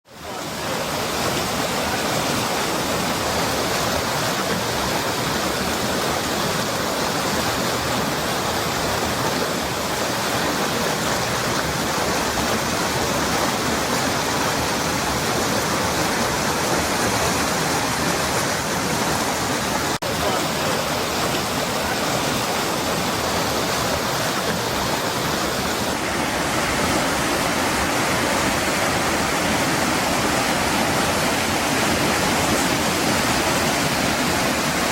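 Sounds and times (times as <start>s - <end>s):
fast-flowing river water: 0.0s - 34.9s.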